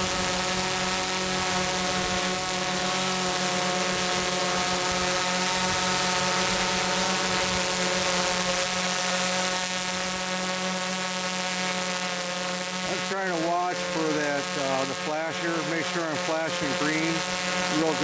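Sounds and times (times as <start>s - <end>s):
quadcopter hovering drone: 0.0s - 18.0s.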